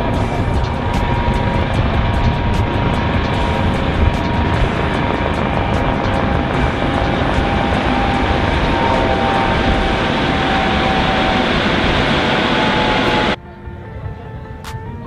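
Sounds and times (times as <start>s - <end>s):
loud rushing noise: 0.0s - 13.4s.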